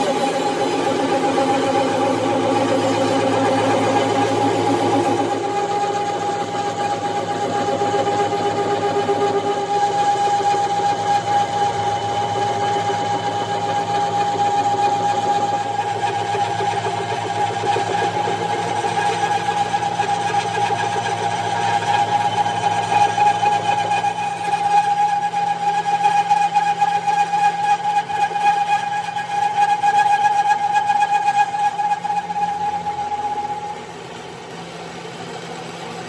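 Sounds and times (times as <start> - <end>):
metal lathe humming and whining: 0.0 - 36.0.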